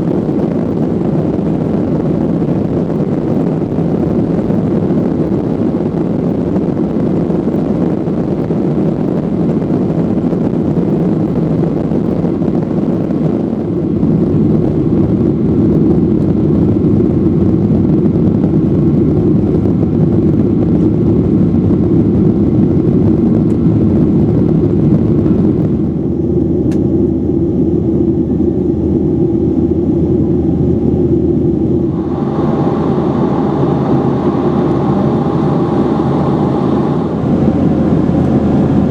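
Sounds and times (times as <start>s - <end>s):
jet engine cabin rumble: 0.0s - 38.9s
steady hum: 0.0s - 38.9s.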